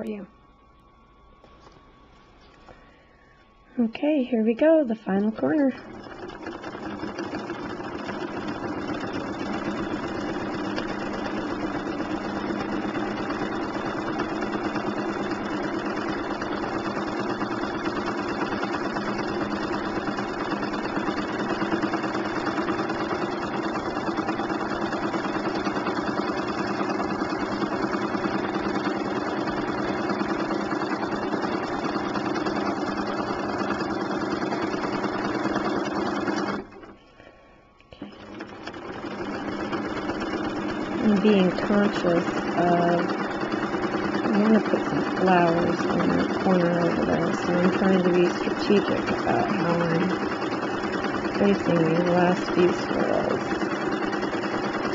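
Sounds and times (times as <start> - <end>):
sewing machine stitching: 5.1 - 37.0, 38.0 - 54.9.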